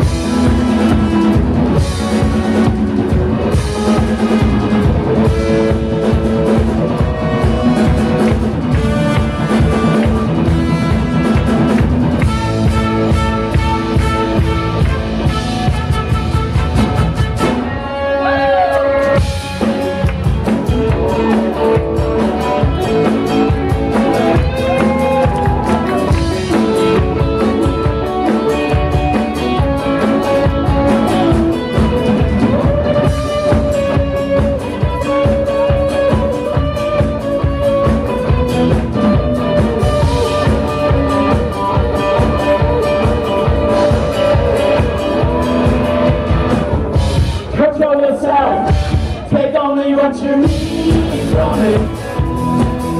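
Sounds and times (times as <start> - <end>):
drum kit beat: 0.0 - 17.7, 19.0 - 47.8, 48.6 - 49.5, 50.4 - 52.9
bass guitar: 0.0 - 52.9
electric guitars: 0.0 - 52.9.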